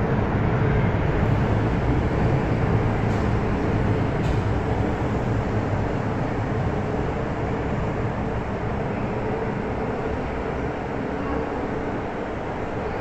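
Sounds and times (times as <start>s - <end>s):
electric train running rumble and hum: 0.0s - 13.0s.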